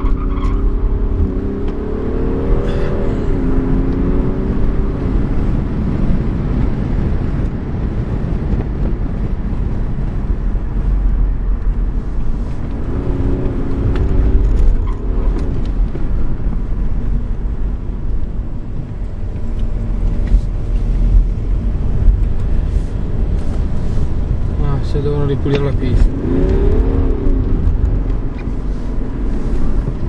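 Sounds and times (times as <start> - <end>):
diesel engine rumbling in cabin: 0.0 - 30.0
road noise: 0.0 - 30.0.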